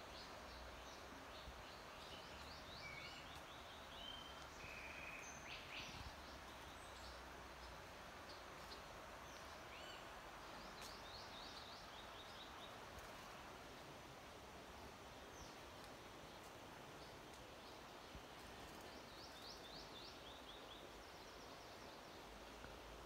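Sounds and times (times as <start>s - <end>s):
steady soft hiss: 0.0s - 23.0s.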